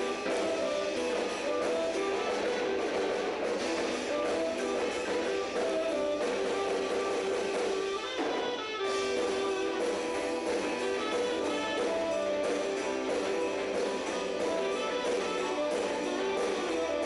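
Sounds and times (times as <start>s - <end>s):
rock music with strummed guitar: 0.0s - 17.0s.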